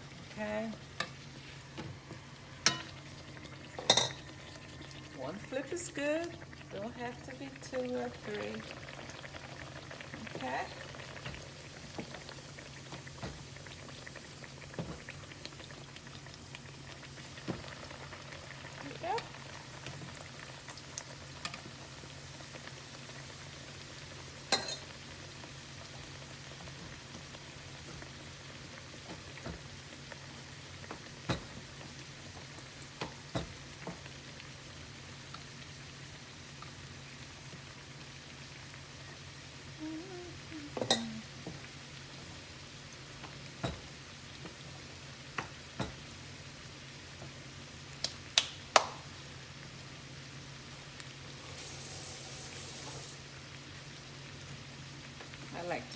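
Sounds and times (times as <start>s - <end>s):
dough frying in hot oil: 0.0s - 55.9s.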